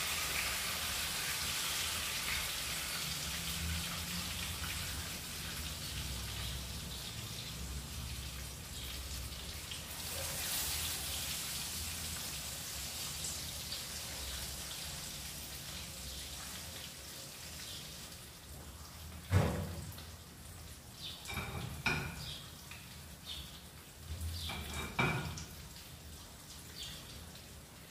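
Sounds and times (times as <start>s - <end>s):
fish sizzling in oil: 0.0s - 27.9s.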